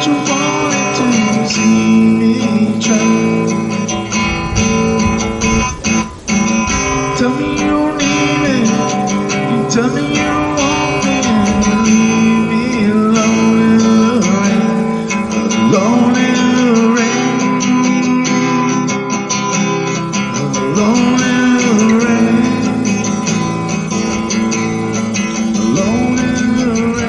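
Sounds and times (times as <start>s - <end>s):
acoustic guitar music: 0.0s - 27.0s.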